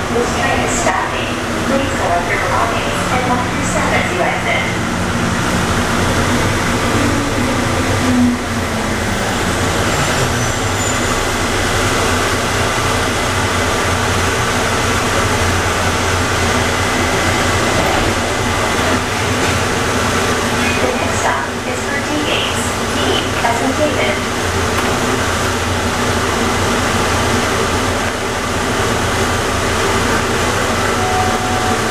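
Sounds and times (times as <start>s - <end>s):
train rumbling and humming: 0.0s - 31.9s.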